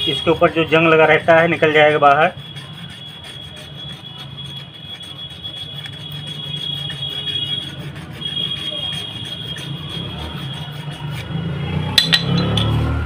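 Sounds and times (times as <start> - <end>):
hacksaw blade rasping on brake shoe: 0.0 - 12.9.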